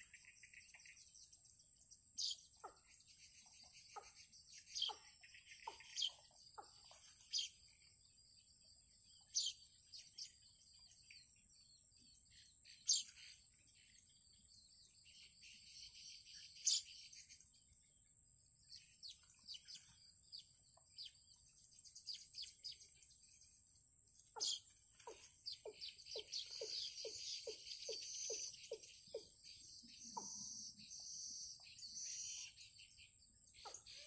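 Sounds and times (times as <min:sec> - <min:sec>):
faint high bird chirps: 0:00.0 - 0:34.0.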